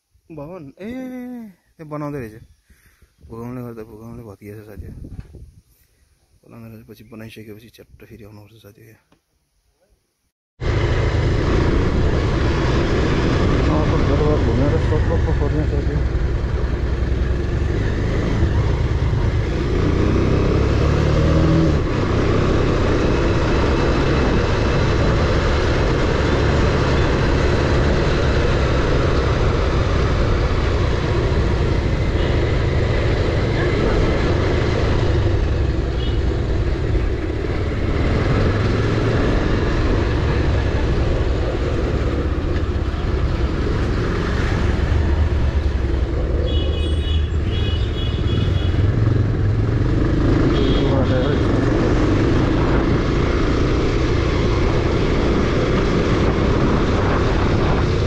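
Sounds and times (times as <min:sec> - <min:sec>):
motorcycle engine running: 0:10.6 - 0:58.0.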